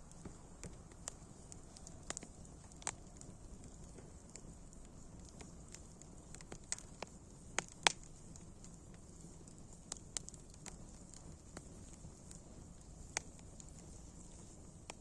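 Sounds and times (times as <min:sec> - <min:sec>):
fire crackles and pops: 0:00.0 - 0:15.0
fire hissing: 0:00.0 - 0:15.0.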